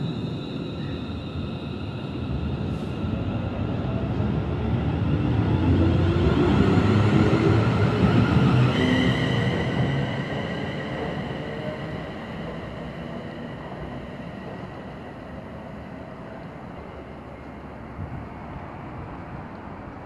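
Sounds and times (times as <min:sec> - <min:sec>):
train wheel and rail rumble: 0:00.0 - 0:20.0.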